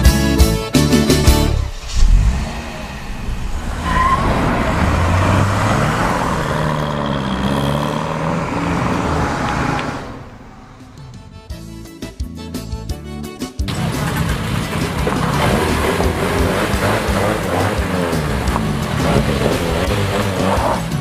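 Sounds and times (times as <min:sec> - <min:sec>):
car engine revving: 0:01.3 - 0:11.5, 0:13.7 - 0:21.0.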